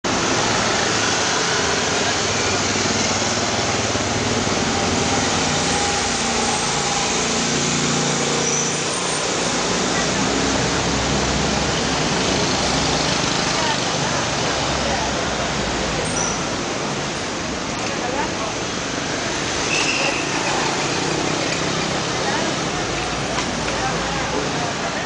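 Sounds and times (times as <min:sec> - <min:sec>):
cars and buses passing: 0:00.0 - 0:25.0
motor scooters passing: 0:00.1 - 0:25.0
people's voices: 0:00.1 - 0:25.0.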